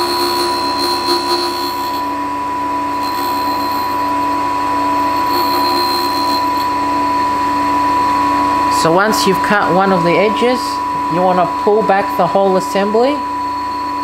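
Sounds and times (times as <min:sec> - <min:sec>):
grinder wheel grinding with whine: 0:00.0 - 0:14.0.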